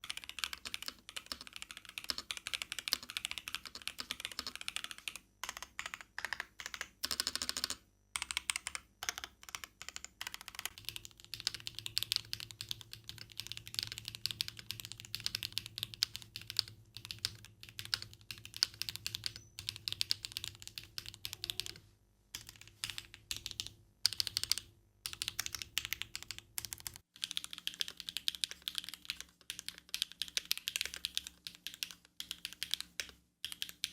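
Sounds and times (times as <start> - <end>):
mechanical keyboard typing: 0.0 - 21.8, 22.4 - 33.9.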